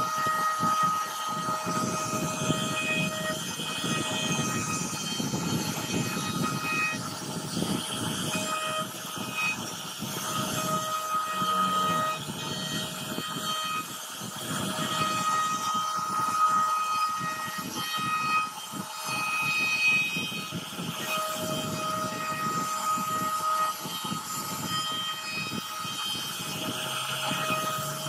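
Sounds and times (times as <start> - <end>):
router cutter grinding wood: 0.0 - 28.0
spindle whine: 0.0 - 28.0.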